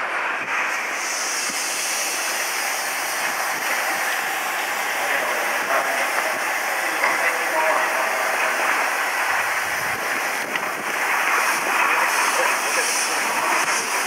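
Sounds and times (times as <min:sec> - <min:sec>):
electric train hiss and hum: 0:00.0 - 0:14.0
high air hiss: 0:00.0 - 0:14.0.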